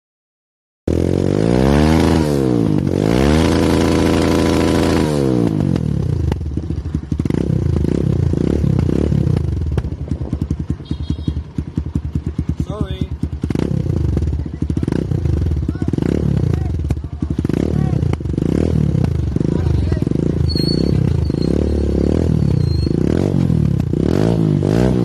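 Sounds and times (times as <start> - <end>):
motorcycle engine revving: 0.9 - 25.0.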